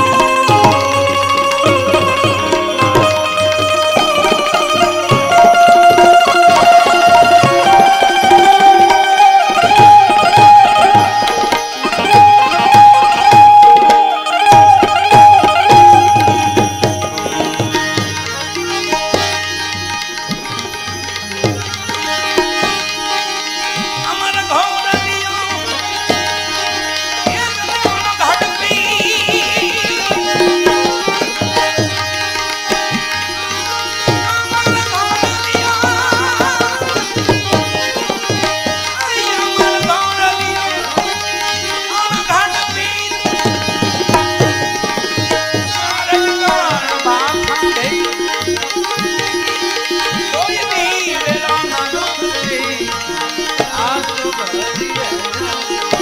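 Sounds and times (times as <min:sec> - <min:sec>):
sustained melodic instruments: 0:00.0 - 0:56.0
tabla rhythm: 0:00.0 - 0:56.0.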